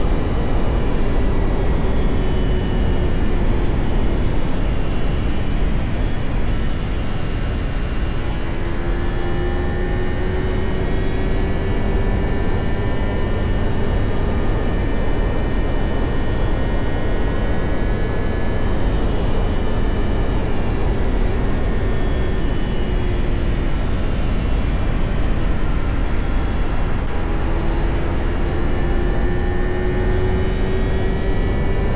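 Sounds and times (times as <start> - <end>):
wind rush over microphone: 0.0 - 31.9.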